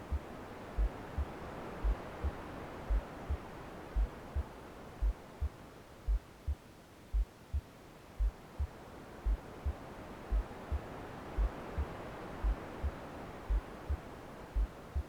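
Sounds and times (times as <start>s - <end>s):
white noise: 0.0s - 15.0s
heartbeat thumps: 0.1s - 15.0s.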